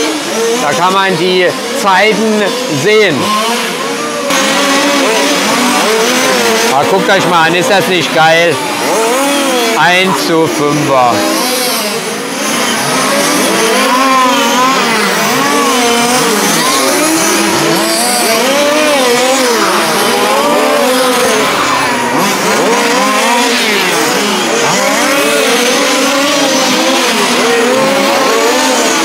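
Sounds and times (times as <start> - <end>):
small engines revving: 0.0 - 29.0.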